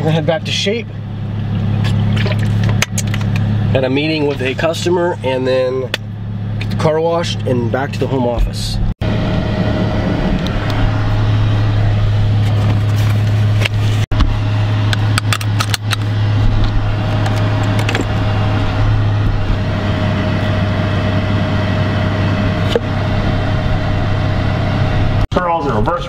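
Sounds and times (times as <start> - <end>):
car engine drone from inside: 0.0 - 26.0.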